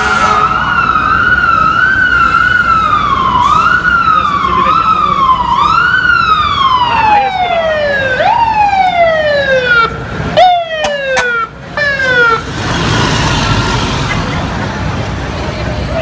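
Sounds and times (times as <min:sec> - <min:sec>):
fire engine siren wailing: 0:00.0 - 0:14.1.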